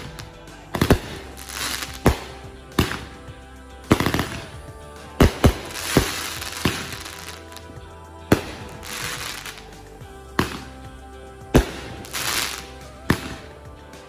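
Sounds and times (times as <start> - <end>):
fireworks crackling: 0.0 - 3.2, 3.9 - 10.7, 11.6 - 13.4
background music: 0.0 - 14.0.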